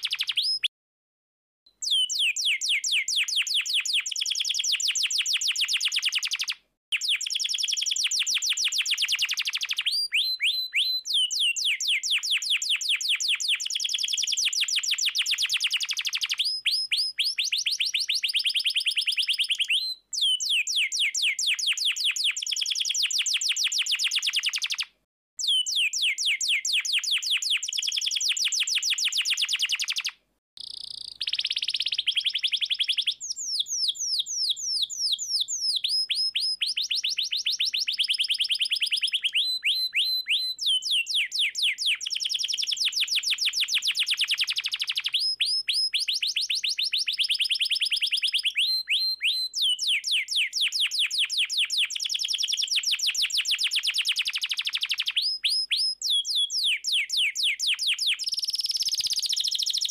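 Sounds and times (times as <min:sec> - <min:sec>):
canary singing trills: 0:00.0 - 0:00.7, 0:01.8 - 0:59.9.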